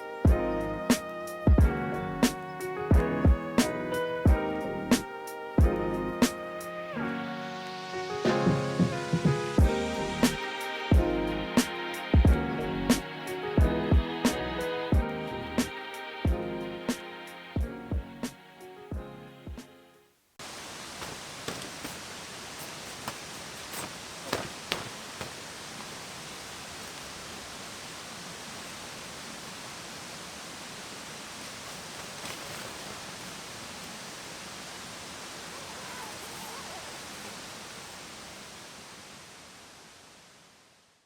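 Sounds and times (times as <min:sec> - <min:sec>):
steady hiss: 0:00.0 - 0:17.6, 0:20.3 - 0:41.0.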